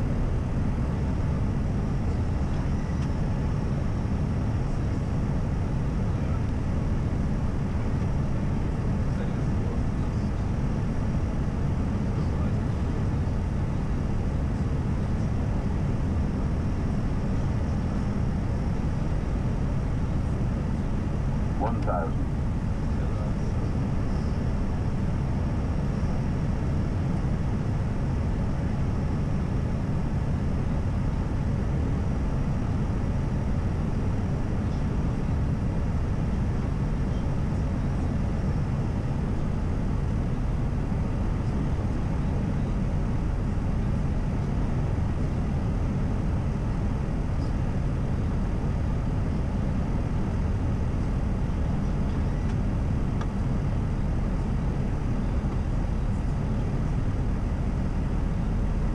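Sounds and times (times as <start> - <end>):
airflow and jet engine noise: 0.0 - 58.9.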